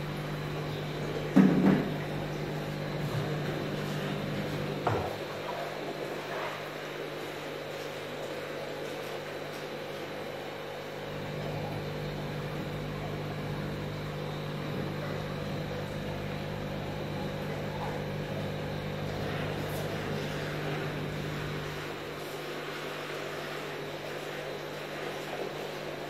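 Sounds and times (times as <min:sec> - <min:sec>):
aquarium pumps humming: 0:00.0 - 0:26.0.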